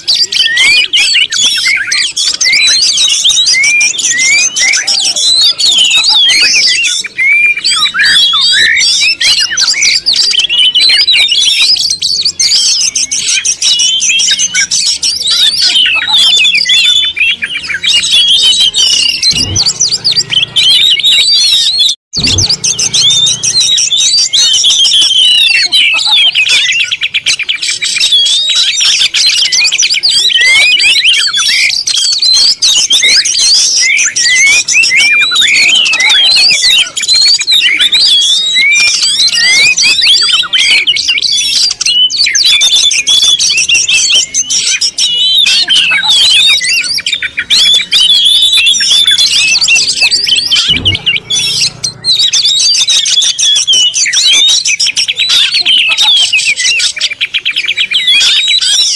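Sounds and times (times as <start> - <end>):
many birds chirping: 0.0 - 58.9.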